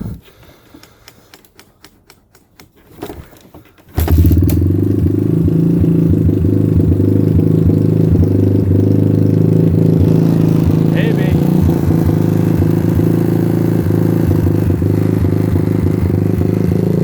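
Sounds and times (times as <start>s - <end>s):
quad engine starting and running: 2.7s - 17.0s.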